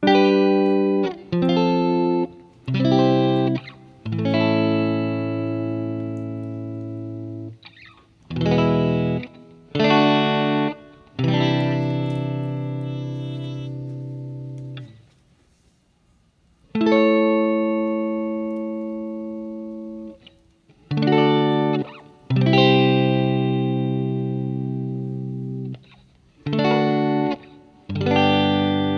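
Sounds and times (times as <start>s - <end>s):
distorted electric guitar chords: 0.0s - 15.0s, 16.8s - 28.9s.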